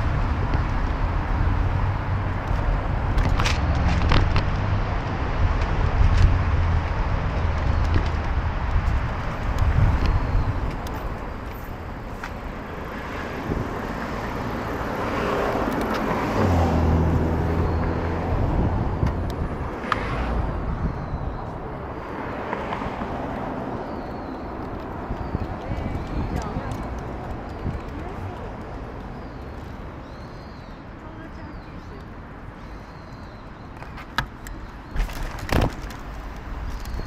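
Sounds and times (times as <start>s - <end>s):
passing cars: 0.0s - 37.0s
vehicle engine humming: 0.0s - 37.0s.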